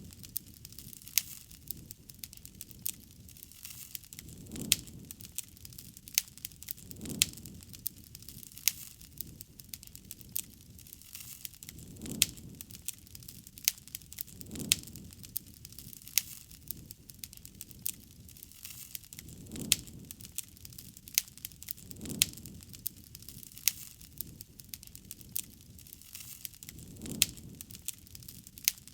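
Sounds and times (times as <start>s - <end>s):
campfire crackling and popping: 0.0s - 28.9s.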